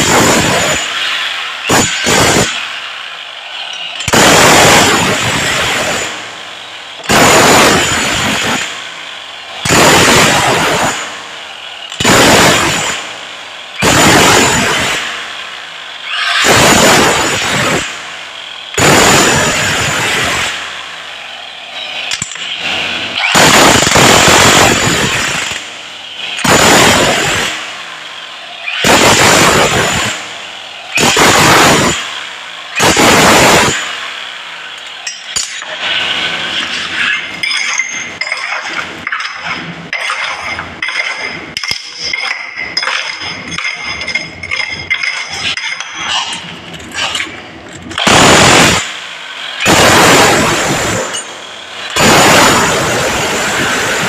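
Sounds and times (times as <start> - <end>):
power tool bursts winding down: 0.0 - 39.6, 40.2 - 54.0.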